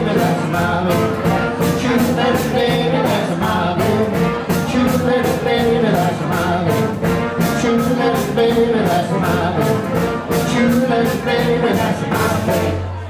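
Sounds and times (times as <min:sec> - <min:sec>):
live rock and roll band playing: 0:00.0 - 0:13.0.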